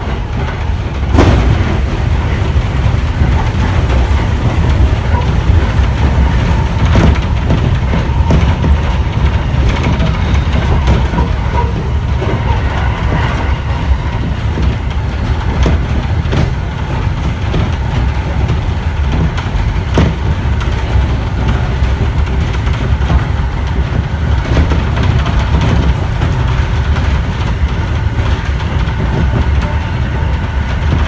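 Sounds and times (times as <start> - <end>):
train cabin rumble: 0.0 - 31.0
wheels clicking on rails: 0.0 - 31.0.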